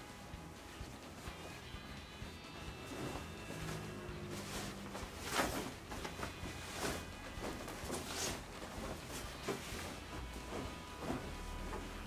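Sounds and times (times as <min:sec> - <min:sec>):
duvet fabric whooshing: 0:00.0 - 0:12.0.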